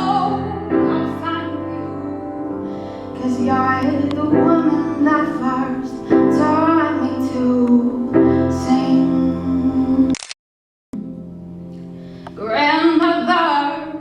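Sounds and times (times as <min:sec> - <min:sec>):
sustained piano chords: 0:00.0 - 0:10.1, 0:11.0 - 0:14.0
woman singing slow song: 0:00.0 - 0:10.1, 0:12.4 - 0:14.0.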